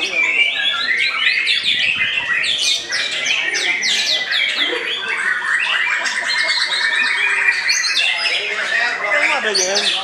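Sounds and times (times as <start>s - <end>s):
bird singing whistles and trills: 0.0s - 8.5s.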